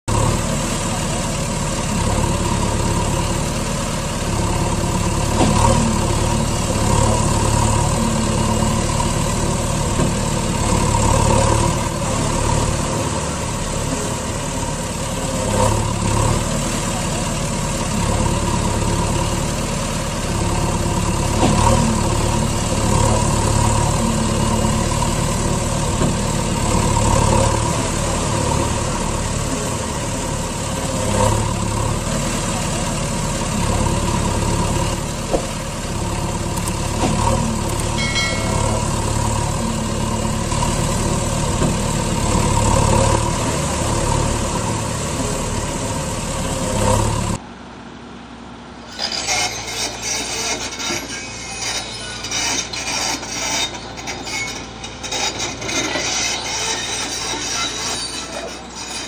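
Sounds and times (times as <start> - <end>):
heavy truck engine idling: 0.1 - 49.0.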